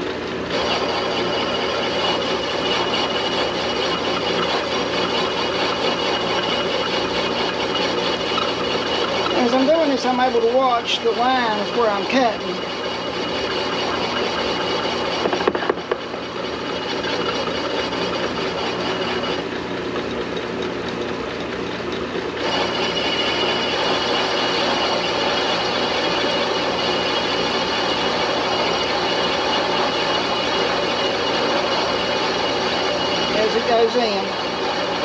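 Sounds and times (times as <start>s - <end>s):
metal lathe drone: 0.0s - 35.0s.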